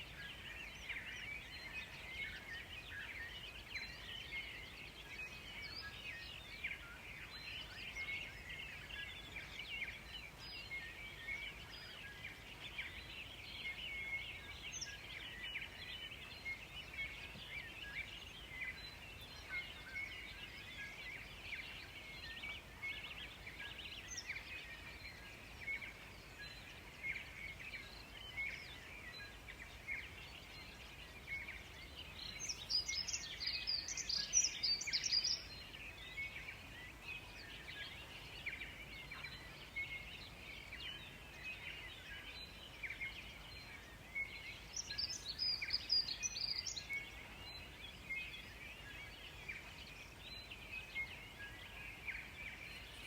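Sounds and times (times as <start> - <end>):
birds chirping and singing: 5.3 - 53.0.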